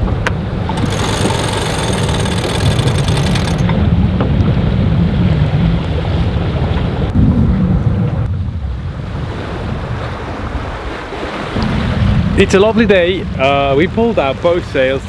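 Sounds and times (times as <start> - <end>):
water washing along hull: 0.0 - 15.0.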